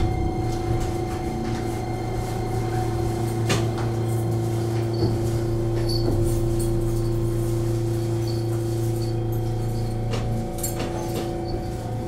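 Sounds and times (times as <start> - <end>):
train electrical hum: 0.0 - 12.0.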